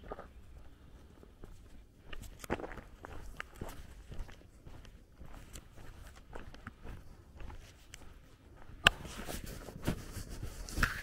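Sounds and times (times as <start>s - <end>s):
footsteps on gravel: 0.0s - 9.3s.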